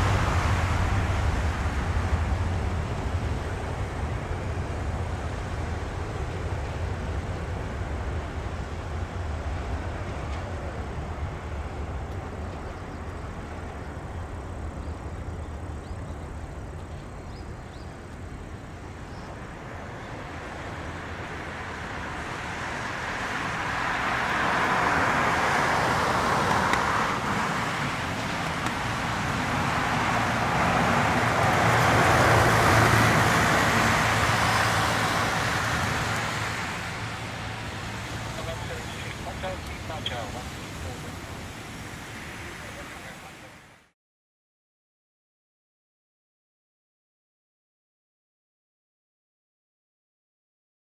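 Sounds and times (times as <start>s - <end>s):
jet engine roar: 0.0s - 43.9s.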